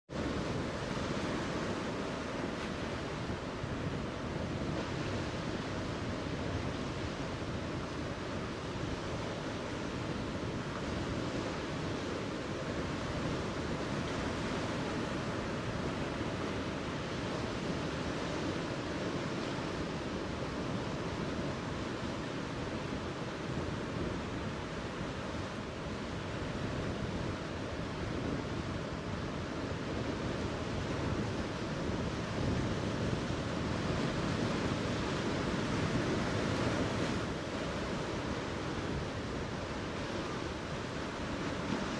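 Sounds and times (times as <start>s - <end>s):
sea surf on rocks: 0.1s - 41.9s.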